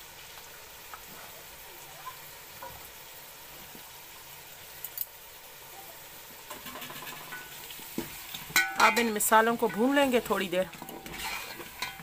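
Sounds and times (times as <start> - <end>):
oil sizzling in a pot: 0.0 - 12.0.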